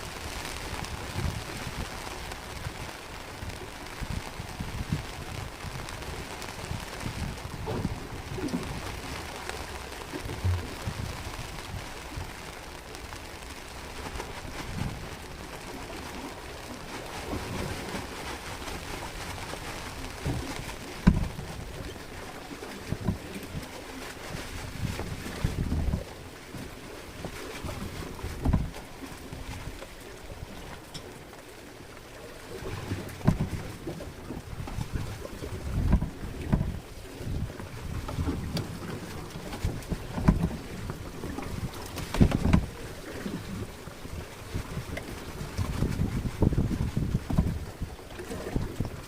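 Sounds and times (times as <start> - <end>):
wind buffeting microphone: 0.0 - 26.5, 27.2 - 30.7, 32.5 - 49.0
wind and sea rushing hiss: 0.0 - 49.0.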